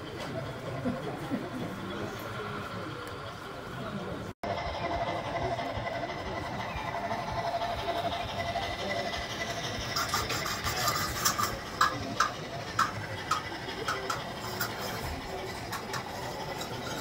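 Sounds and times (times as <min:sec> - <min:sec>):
model train motor whirr: 0:00.0 - 0:17.0.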